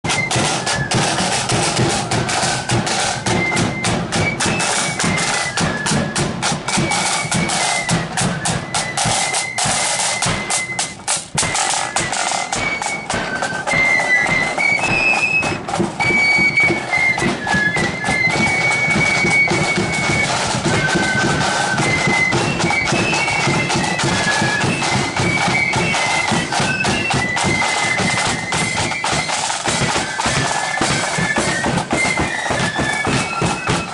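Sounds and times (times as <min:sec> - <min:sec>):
flutes playing shrill melody: 0:00.0 - 0:33.9
marching drums beat: 0:00.0 - 0:33.9.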